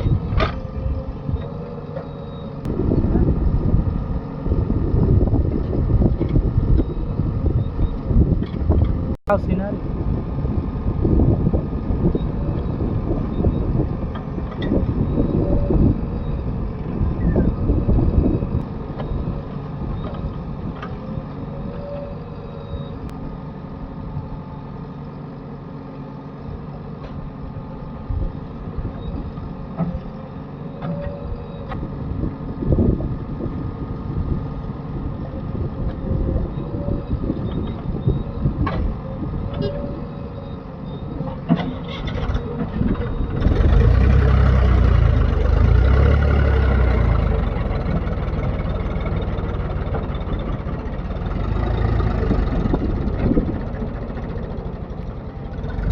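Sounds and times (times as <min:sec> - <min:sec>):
heavy diesel engine working: 0:00.0 - 0:55.9.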